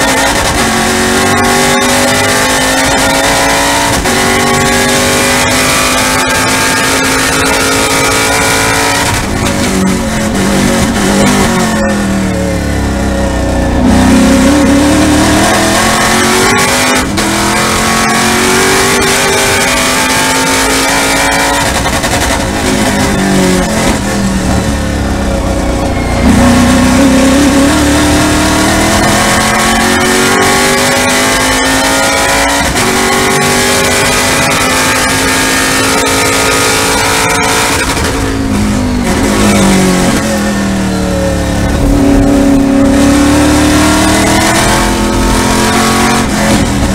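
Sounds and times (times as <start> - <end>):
race car engine: 0.0 - 46.9.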